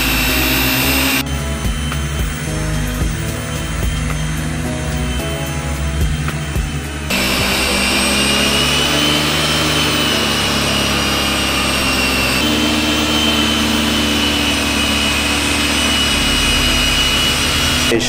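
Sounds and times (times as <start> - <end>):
electric polisher whining: 0.0 - 18.0.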